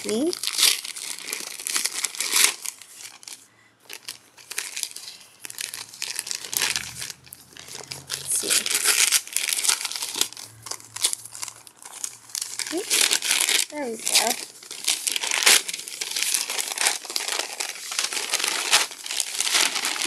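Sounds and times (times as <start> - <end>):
wrapping paper crinkling: 0.0 - 20.0.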